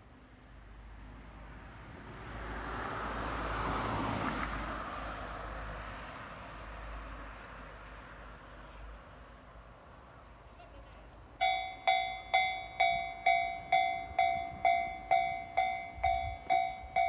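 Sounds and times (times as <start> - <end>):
road vehicle passing: 0.9 - 10.2, 11.4 - 17.0.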